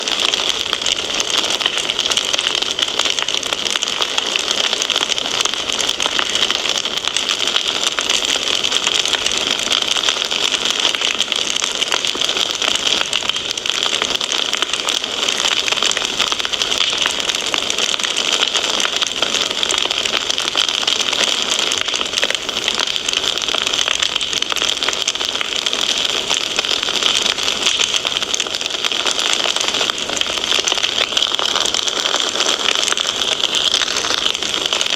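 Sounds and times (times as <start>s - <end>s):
fire hiss: 0.0s - 34.9s
fire pops and snaps: 0.0s - 34.9s.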